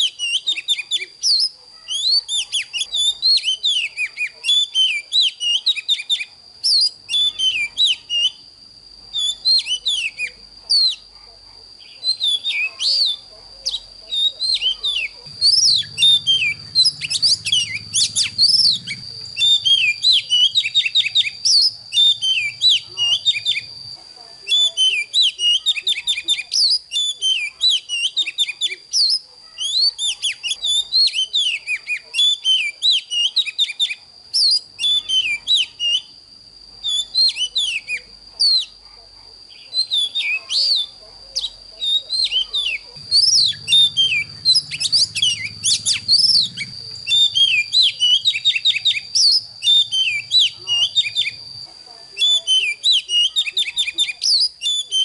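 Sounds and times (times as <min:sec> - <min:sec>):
bird singing whistles and chirps: 0:00.0 - 0:08.5, 0:09.1 - 0:11.1, 0:11.8 - 0:23.8, 0:24.4 - 0:36.2, 0:36.8 - 0:38.8, 0:39.5 - 0:55.0.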